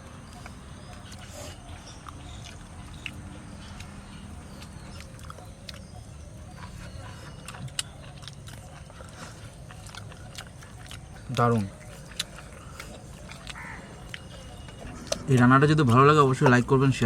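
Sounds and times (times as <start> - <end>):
low background noise: 0.0 - 17.0
eating mouth sounds and clicks: 0.1 - 17.0.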